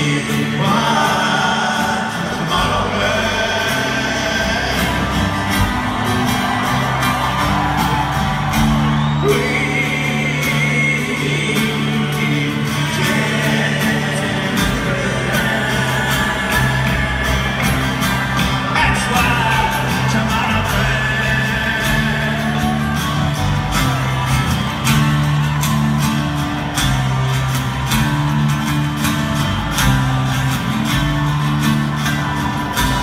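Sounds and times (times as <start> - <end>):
rock band playing live: 0.0 - 33.0
singer's voice: 0.0 - 33.0.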